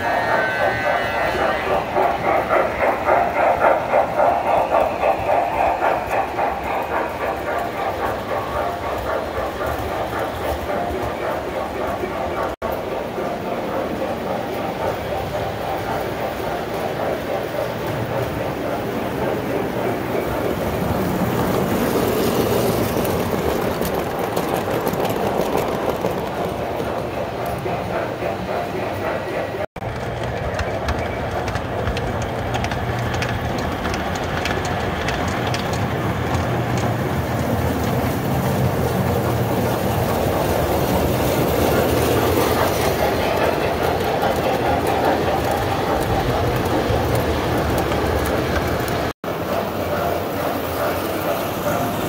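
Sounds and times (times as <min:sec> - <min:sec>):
toy train clickety-clack on track: 0:00.0 - 0:52.0.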